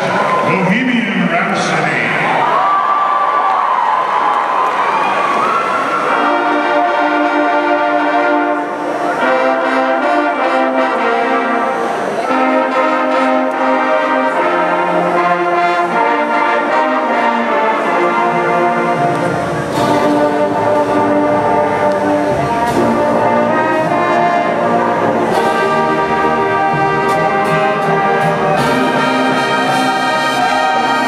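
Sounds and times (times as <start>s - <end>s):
marching band playing: 5.9s - 31.0s
low brass: 6.0s - 31.0s.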